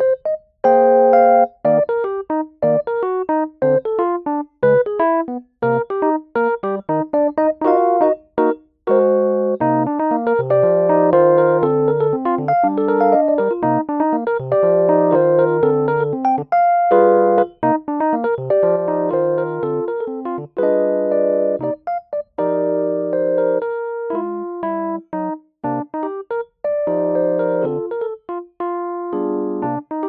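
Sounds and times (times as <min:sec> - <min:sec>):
electric piano melody: 0:00.0 - 0:30.0.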